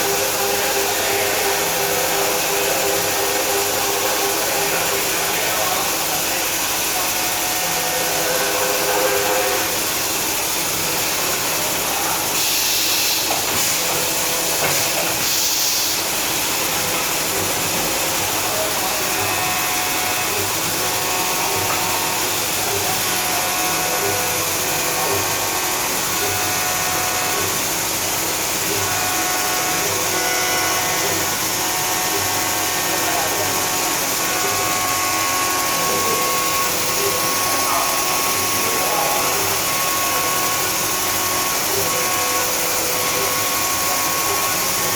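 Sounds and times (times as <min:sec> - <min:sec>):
machining center hiss: 0:00.0 - 0:44.9.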